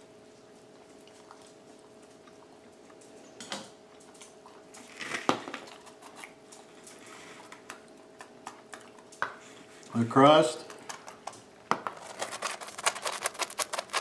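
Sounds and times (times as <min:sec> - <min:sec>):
man chewing: 0:00.3 - 0:09.9, 0:10.7 - 0:14.0.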